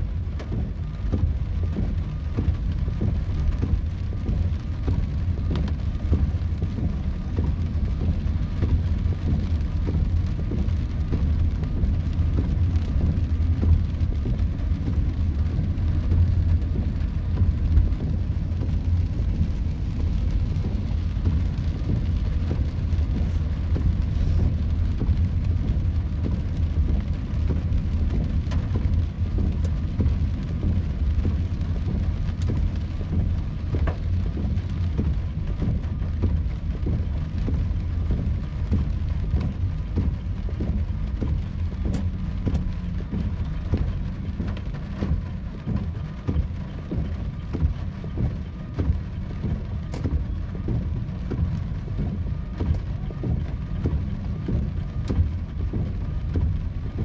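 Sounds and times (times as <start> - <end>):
rain hissing on car roof: 0.0 - 57.0
tyre and engine rumble: 0.0 - 57.0.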